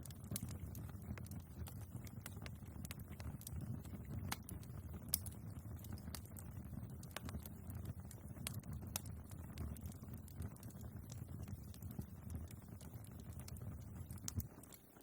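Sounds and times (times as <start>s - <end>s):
low rumble of flame: 0.0s - 15.0s
sharp pops of fire: 0.0s - 15.0s
wood fire crackling: 0.0s - 15.0s.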